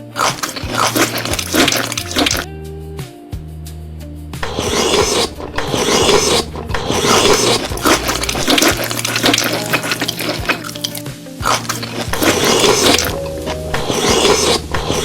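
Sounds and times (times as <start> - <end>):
chewing and crunching food: 0.0 - 2.5, 4.4 - 15.0.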